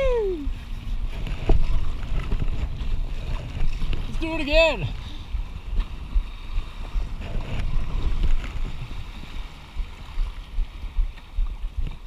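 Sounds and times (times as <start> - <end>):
rushing choppy water: 0.0 - 12.0
wind on microphone: 0.0 - 12.0.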